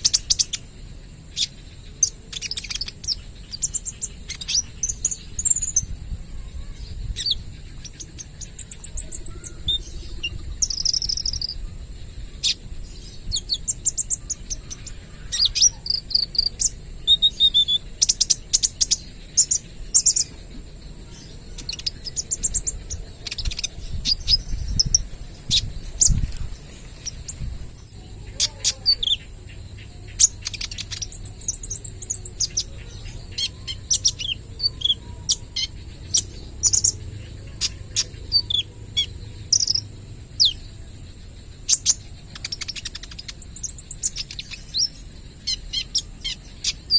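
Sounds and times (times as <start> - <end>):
bird singing rapid high chirps: 0.0 - 46.9
high insect-like hiss: 0.0 - 46.9.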